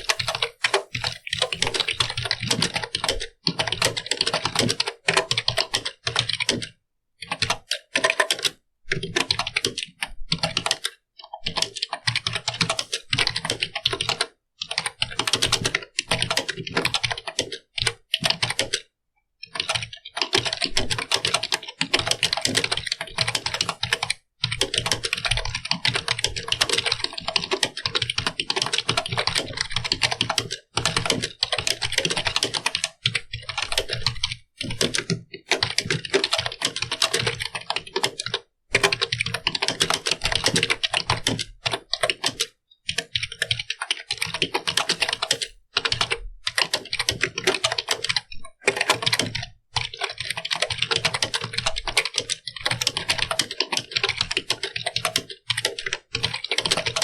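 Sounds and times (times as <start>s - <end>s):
computer keyboard typing: 0.0s - 57.0s.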